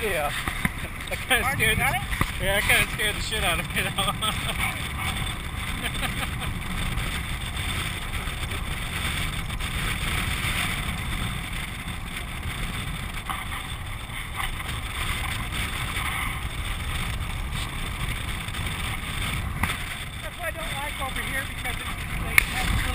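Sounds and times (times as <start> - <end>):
wheels rolling rumble: 0.0 - 22.9
wind rushing over microphone: 0.0 - 22.9.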